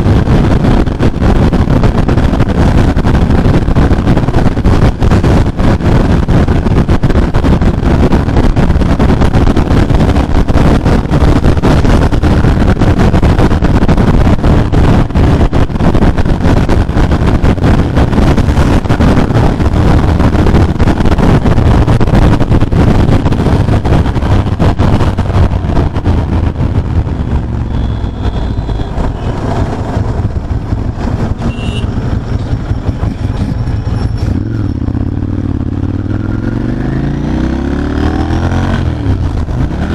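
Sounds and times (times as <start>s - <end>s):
motorcycle engine pulsing exhaust: 0.0s - 39.9s.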